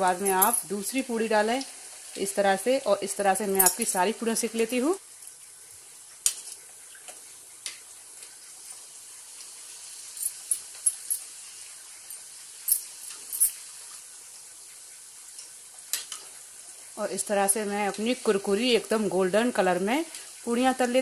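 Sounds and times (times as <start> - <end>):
frying sizzling hiss: 0.0 - 21.0.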